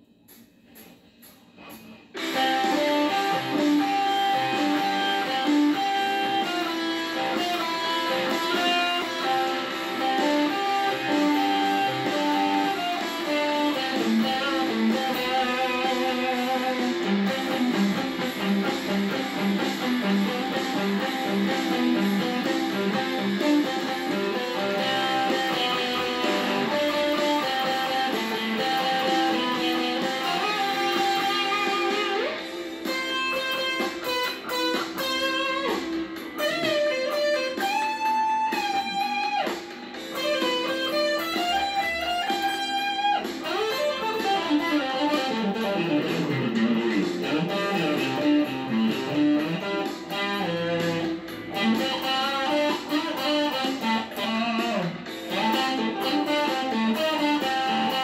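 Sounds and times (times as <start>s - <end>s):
electric guitar rock lines: 0.2s - 58.0s.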